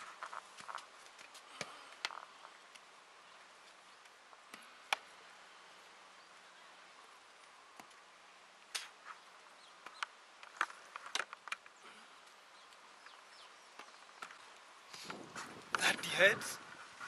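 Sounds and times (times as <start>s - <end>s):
faint steady hiss: 0.0s - 17.0s
walking sticks tapping ground: 0.0s - 17.0s.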